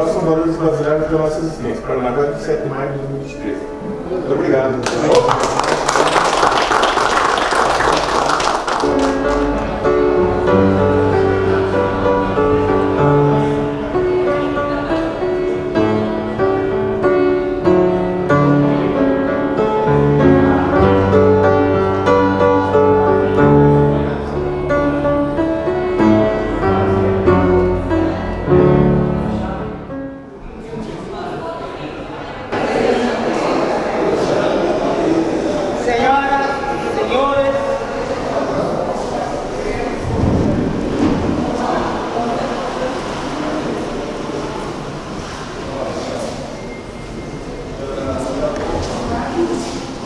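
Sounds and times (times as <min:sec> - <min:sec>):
grand piano melody: 0:00.0 - 0:30.6, 0:32.6 - 0:50.0
crowd noise: 0:00.0 - 0:50.0.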